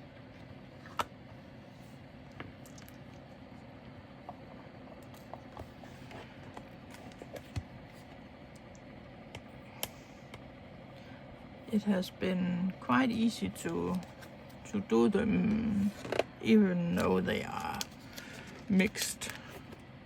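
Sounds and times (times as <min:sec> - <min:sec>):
steady low background hum: 0:00.0 - 0:20.0.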